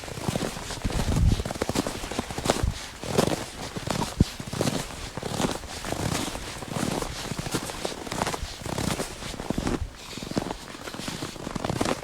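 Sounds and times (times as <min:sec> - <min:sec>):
footsteps crunching in snow: 0:00.0 - 0:12.0.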